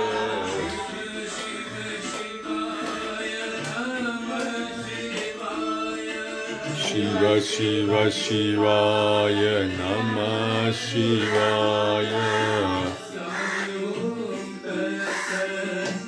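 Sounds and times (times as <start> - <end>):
group chanting: 0.0 - 16.0.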